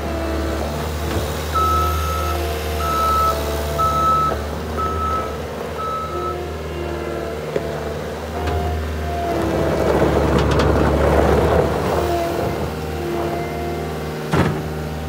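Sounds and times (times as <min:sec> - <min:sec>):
loader engine drone: 0:00.0 - 0:15.0.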